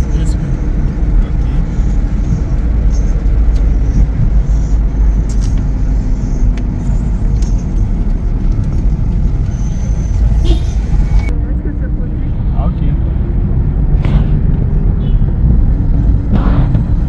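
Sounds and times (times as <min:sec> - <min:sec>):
car cabin road rumble: 0:00.0 - 0:17.0.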